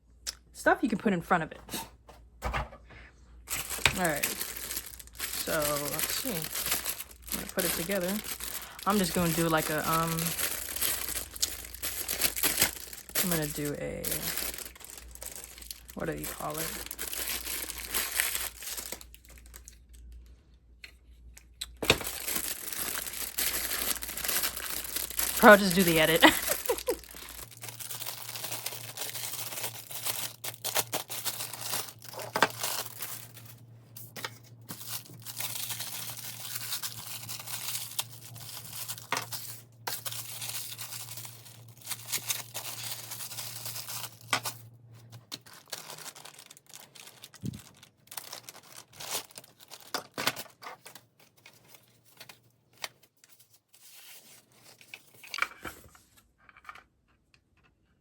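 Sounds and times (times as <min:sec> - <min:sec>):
plastic packaging crinkling: 0:03.5 - 0:20.3, 0:21.6 - 0:55.9.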